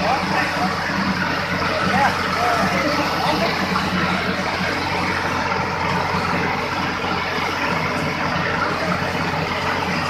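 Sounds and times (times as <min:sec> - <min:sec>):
diesel tractor engines under load: 0:00.0 - 0:10.0.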